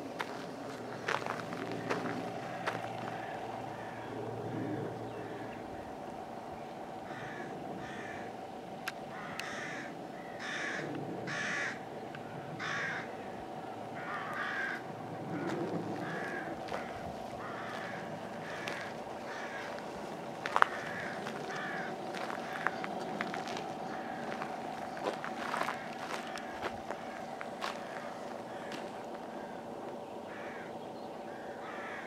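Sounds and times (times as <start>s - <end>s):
steady low hum: 0.0s - 32.0s
bird cawing: 0.2s - 32.0s.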